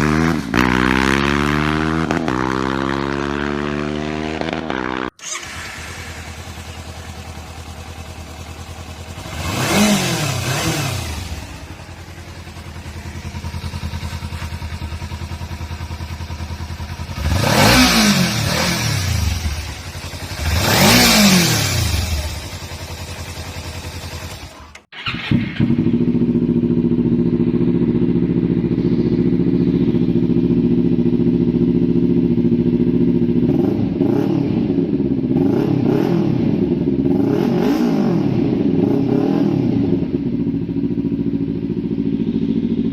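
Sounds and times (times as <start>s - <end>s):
motorcycle exhaust idling and revving: 0.0s - 5.2s, 5.8s - 42.9s.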